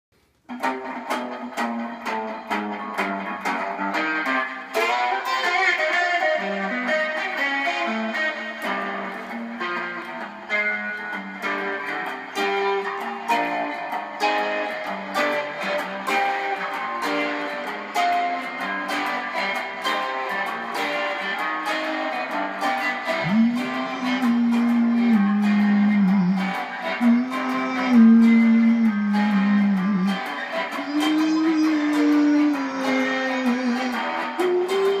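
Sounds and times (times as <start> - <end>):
rockabilly electric guitar: 0.2 - 35.0.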